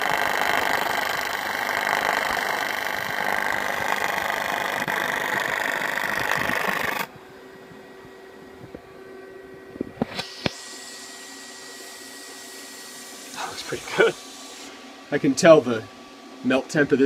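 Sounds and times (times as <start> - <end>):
welding arc buzzing and crackling: 0.0 - 7.1, 10.0 - 17.0
faint steady hum: 0.0 - 17.0.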